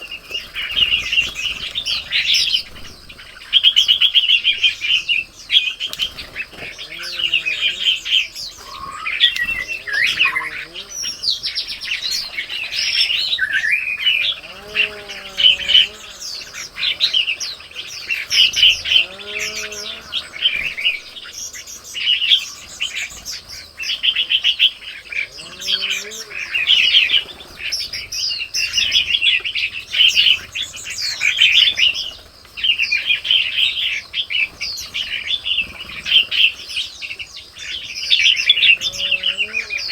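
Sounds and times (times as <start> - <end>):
low arched bird calls: 0.0 - 39.9
songbirds chirping and twittering: 0.0 - 39.9.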